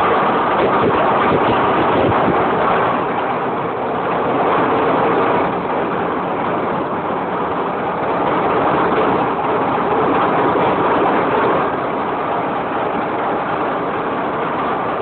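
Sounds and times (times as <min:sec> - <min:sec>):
marine diesel engine running: 0:00.0 - 0:15.0.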